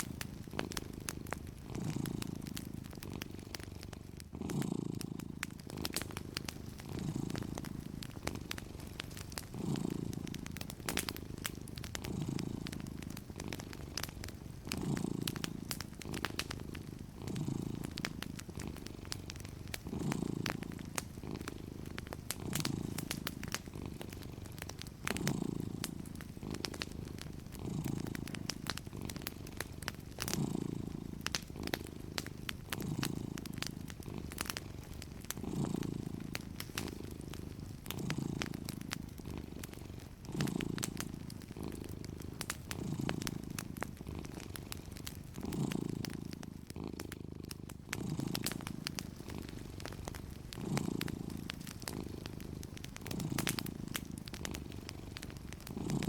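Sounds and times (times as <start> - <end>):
cat purring: 0.0 - 56.0
wood fire crackling: 0.0 - 56.0.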